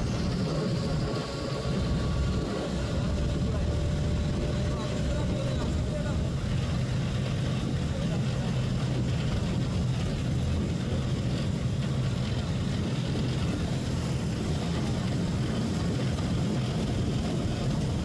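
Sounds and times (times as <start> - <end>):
tyre noise on wet road: 0.0 - 18.0
vehicle engine drone: 0.0 - 18.0.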